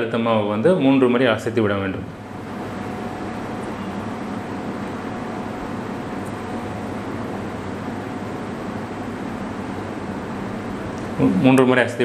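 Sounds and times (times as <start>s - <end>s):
room background hiss: 0.0s - 12.0s.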